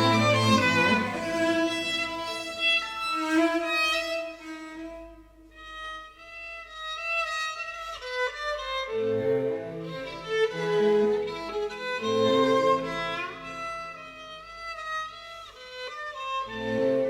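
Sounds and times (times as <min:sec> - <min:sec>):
violin-led string music: 0:00.0 - 0:17.0.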